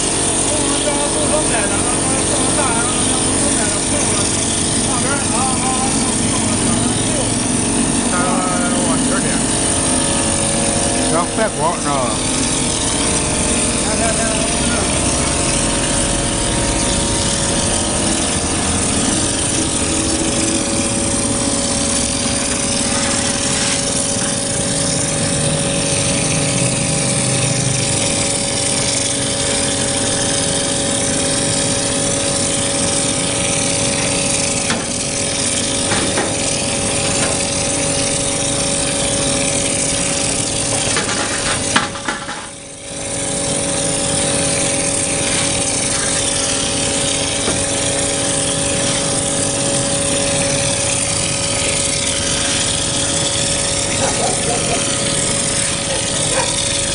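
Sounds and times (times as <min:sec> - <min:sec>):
machine humming: 0:00.0 - 0:56.9
spray gun blasting mortar: 0:00.0 - 0:56.9.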